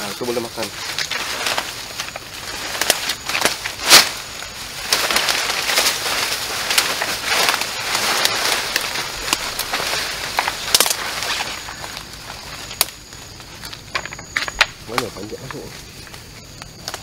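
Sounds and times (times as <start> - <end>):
dry leaves rustling underfoot: 0.0 - 17.0
twigs snapping: 0.7 - 17.0.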